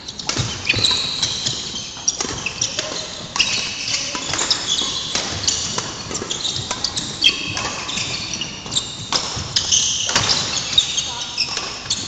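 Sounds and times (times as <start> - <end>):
court shoes squeaking: 0.0 - 12.0
racket hitting shuttlecock: 0.2 - 12.0.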